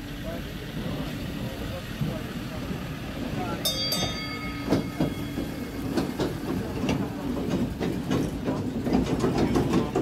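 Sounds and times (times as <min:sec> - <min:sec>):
land train engine running: 0:00.0 - 0:10.0
trailers rattling over cobblestones: 0:00.0 - 0:10.0.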